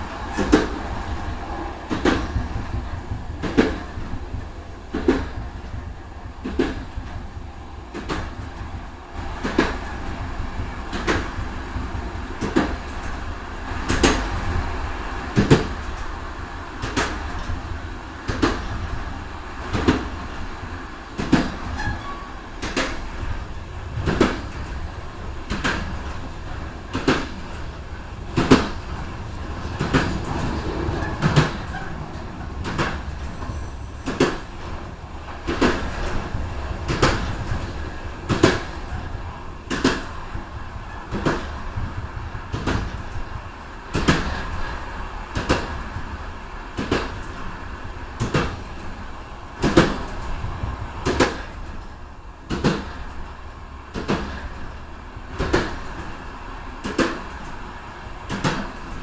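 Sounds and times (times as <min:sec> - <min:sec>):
carriage rumbling on track: 0:00.0 - 0:59.0
train wheels clacking over joints: 0:00.0 - 0:59.0.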